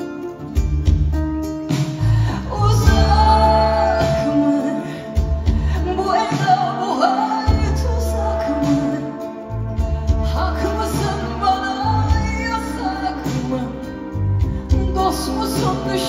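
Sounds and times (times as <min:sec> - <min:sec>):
acoustic guitar: 0:00.0 - 0:16.0
bass guitar: 0:00.0 - 0:16.0
drums: 0:00.0 - 0:16.0
woman singing: 0:02.0 - 0:16.0.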